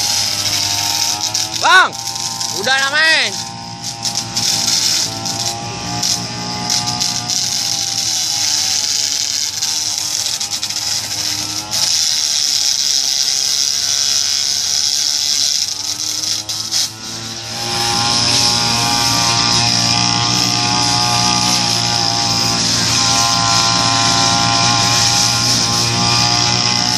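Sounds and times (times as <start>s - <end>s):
brush cutter engine running: 0.0s - 26.9s
cutting head scraping pavement: 0.0s - 26.9s.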